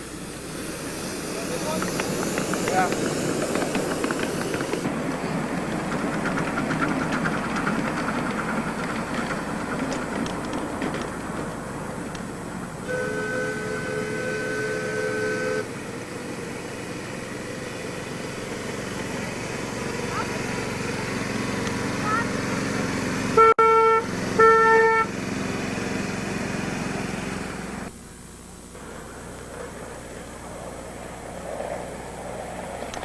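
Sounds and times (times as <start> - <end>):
miniature train rumbling rattle: 0.0 - 23.4, 28.8 - 33.0.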